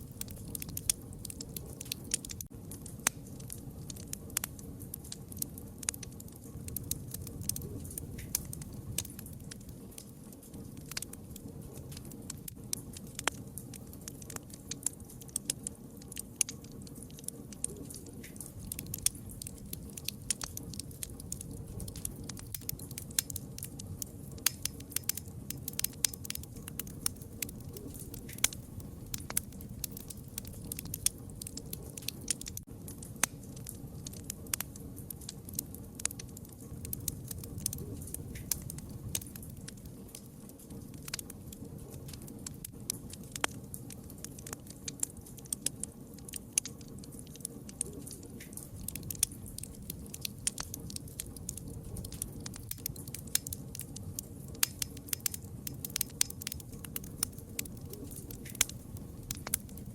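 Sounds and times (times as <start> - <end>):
burning wood crackling and popping: 0.0 - 59.9
low rumble of flames: 0.0 - 59.9.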